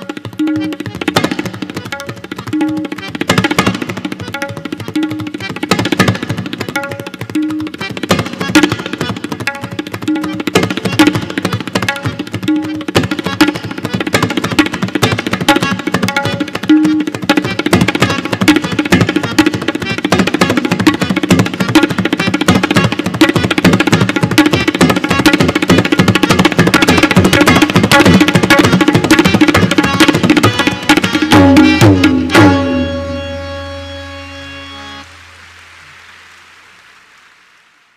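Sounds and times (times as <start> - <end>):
tabla drumming: 0.0 - 36.5.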